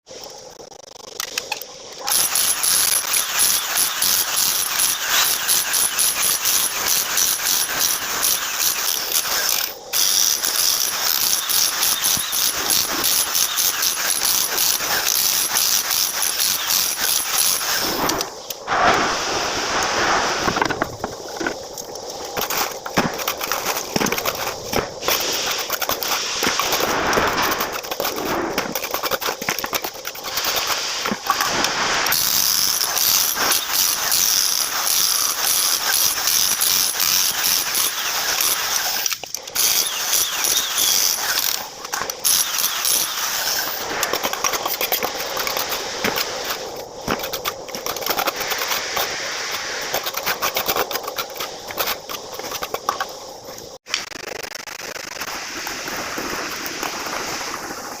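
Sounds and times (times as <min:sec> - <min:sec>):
fast mechanical rattling: 0:02.0 - 0:18.4, 0:20.5 - 0:56.0.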